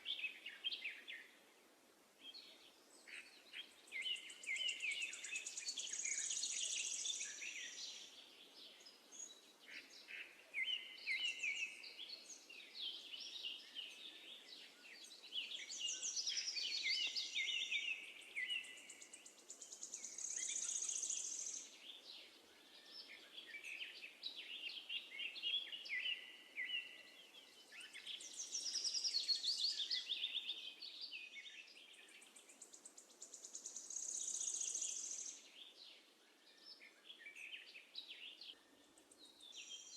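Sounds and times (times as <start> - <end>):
sparrows chirping and twittering: 2.2 - 39.9.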